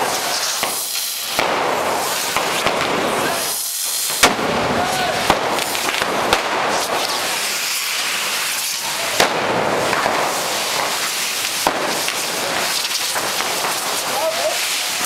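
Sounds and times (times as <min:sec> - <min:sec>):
fireworks hissing and whooshing: 0:00.0 - 0:15.0
sharp firework bangs: 0:00.0 - 0:15.0.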